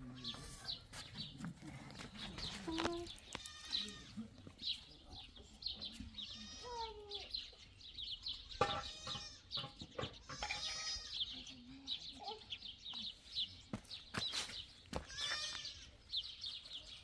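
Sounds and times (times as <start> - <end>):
farm animals calling: 0.0 - 12.8, 14.9 - 17.0
small birds chirping: 0.0 - 17.0.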